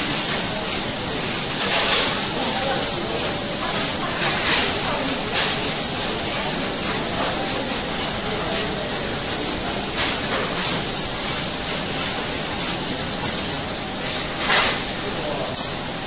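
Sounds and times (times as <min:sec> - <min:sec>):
steady machinery hiss: 0:00.0 - 0:16.0.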